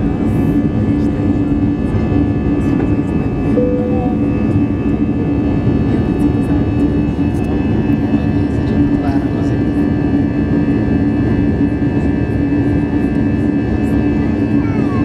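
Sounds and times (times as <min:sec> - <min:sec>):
jet engines roaring in cabin: 0:00.0 - 0:15.0.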